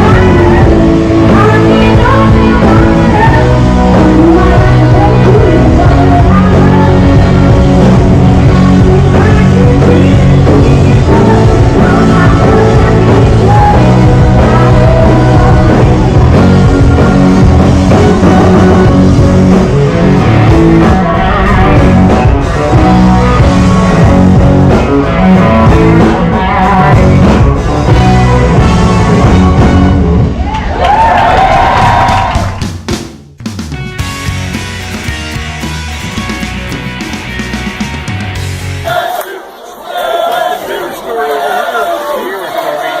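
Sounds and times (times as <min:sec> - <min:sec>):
loud rock music: 0:00.0 - 0:39.2.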